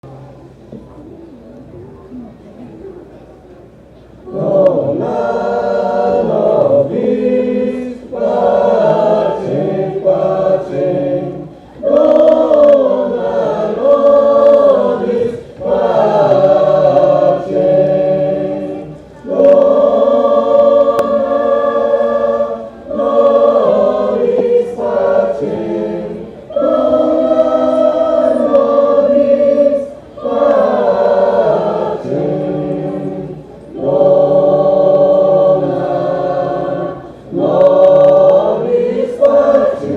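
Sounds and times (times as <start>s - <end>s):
choir singing: 4.2s - 39.9s.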